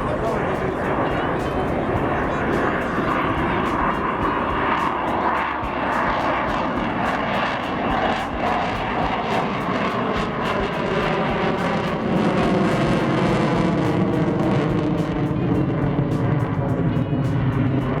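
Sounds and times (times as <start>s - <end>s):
propeller aircraft engine: 0.0s - 18.0s.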